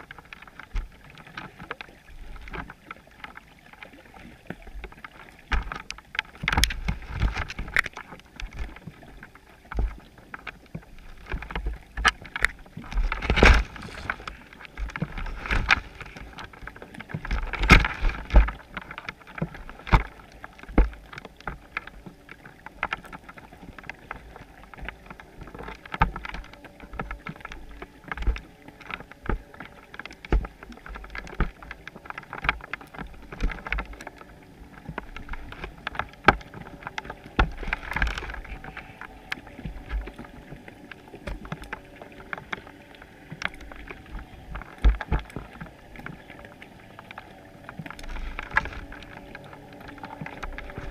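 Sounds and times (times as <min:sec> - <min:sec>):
moving water rumble: 0:00.0 - 0:50.9
underwater clicks and knocks: 0:00.0 - 0:50.9.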